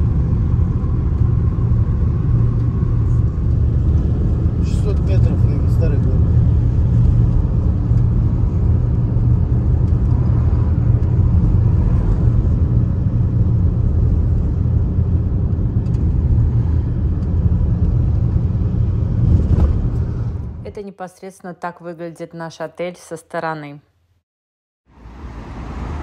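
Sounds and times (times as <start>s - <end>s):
car interior road and engine noise: 0.0s - 20.8s, 24.9s - 26.0s.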